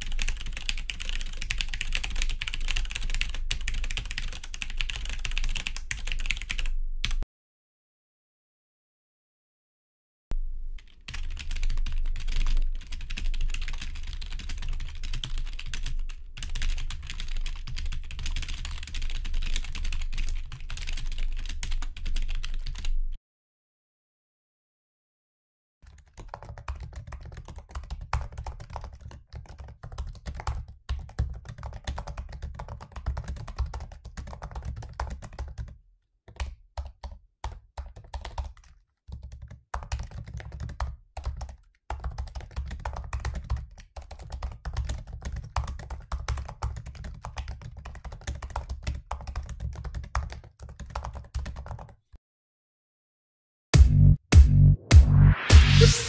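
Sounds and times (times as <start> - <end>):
laptop keyboard typing: 0.0 - 7.2, 10.8 - 23.0, 25.8 - 52.0.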